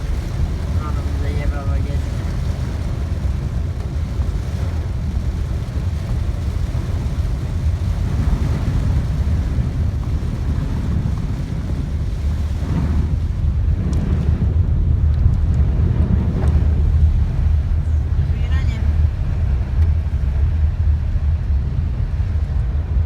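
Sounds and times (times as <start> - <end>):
heavy rain and running water: 0.0 - 23.0
wind buffeting microphone: 0.0 - 23.0.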